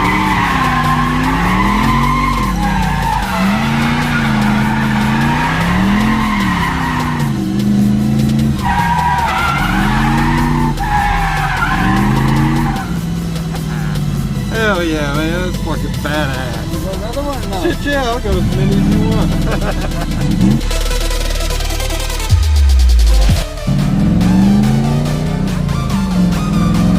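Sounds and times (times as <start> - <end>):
car engine revving: 0.0 - 26.9
tires squealing: 0.0 - 26.9.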